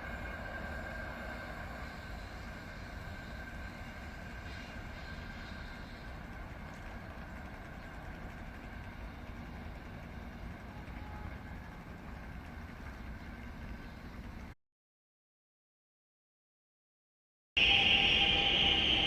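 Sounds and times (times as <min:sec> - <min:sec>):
train rumble and hum: 0:00.0 - 0:14.6, 0:17.6 - 0:19.0.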